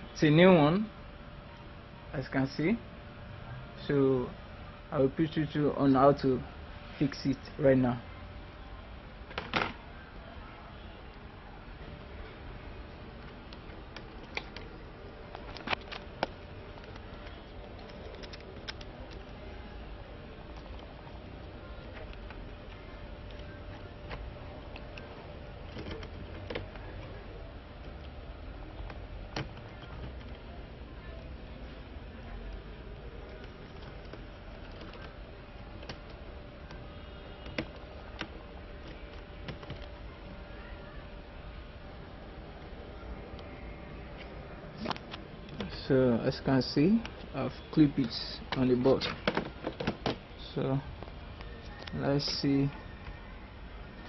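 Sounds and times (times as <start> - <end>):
faint background noise: 0.0 - 54.0.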